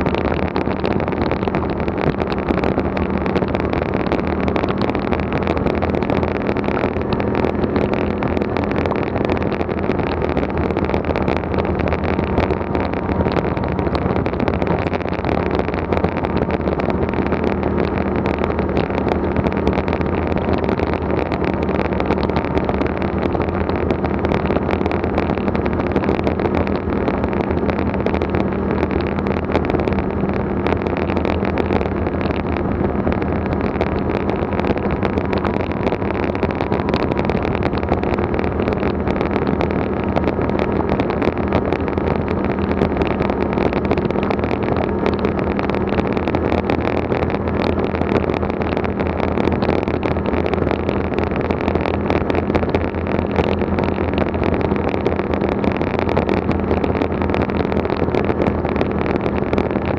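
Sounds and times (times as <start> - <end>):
vehicle engine cruising: 0.0 - 59.9
wind noise: 0.0 - 59.9.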